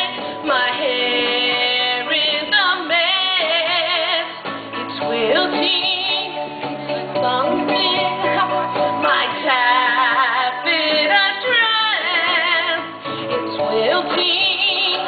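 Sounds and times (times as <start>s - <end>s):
band accompaniment: 0.0s - 15.0s
woman singing pop ballad: 0.0s - 15.0s.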